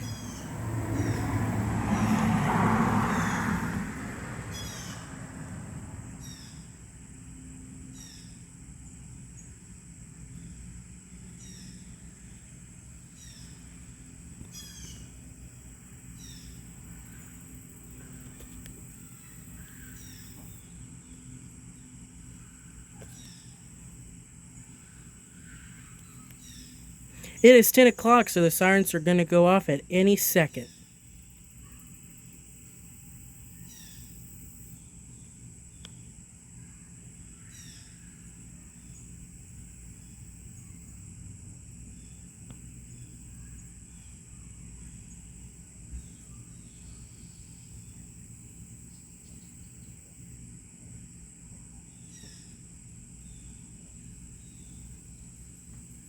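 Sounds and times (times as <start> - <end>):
high insect drone: 0.0 - 28.4, 30.6 - 56.0.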